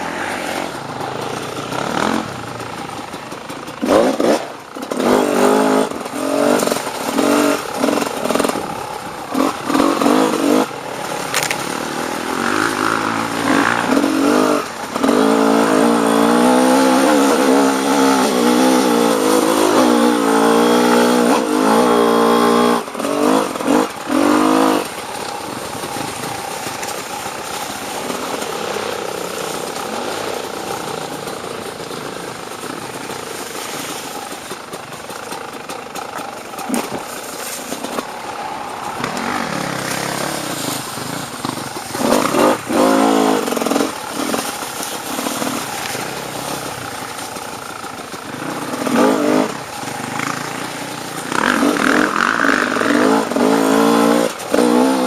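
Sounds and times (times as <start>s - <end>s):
dirt bike engine revving: 0.0s - 33.2s, 33.8s - 55.0s.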